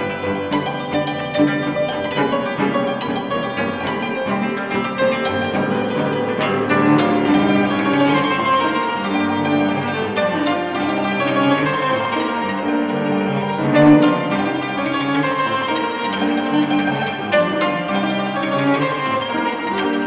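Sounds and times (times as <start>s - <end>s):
cello: 0.0s - 20.0s
hammered dulcimer notes: 0.0s - 20.0s
piano: 0.0s - 20.0s.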